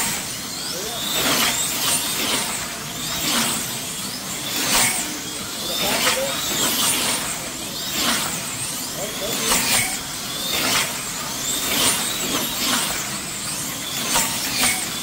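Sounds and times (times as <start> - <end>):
slot cars motor whine passing: 0.0 - 15.0.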